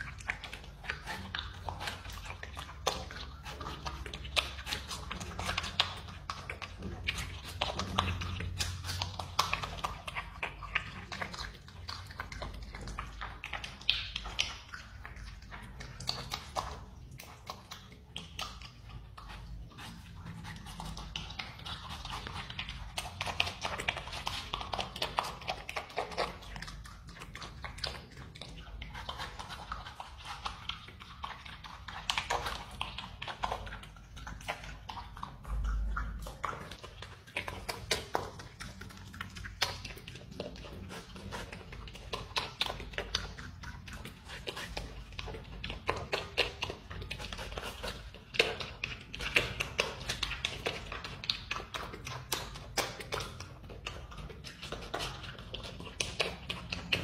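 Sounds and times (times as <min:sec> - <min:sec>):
marmot chewing wetly: 0:00.0 - 0:57.0.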